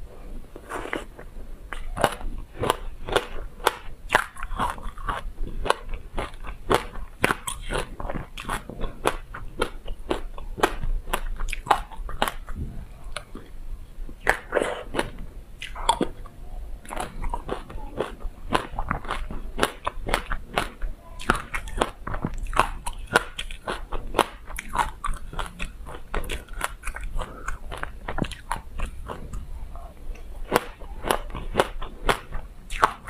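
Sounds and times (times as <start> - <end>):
crunching and chewing seeds: 0.2 - 33.0.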